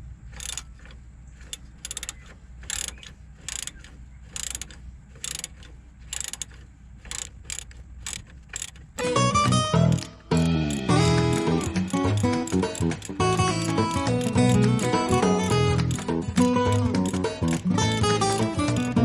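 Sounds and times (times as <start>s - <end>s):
socket ratchet wrench clicking: 0.4s - 19.0s.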